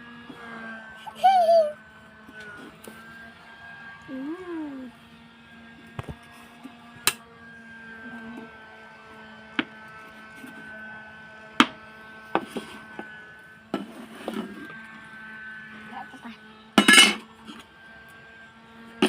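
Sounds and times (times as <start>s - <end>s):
faint hum: 0.0s - 17.6s.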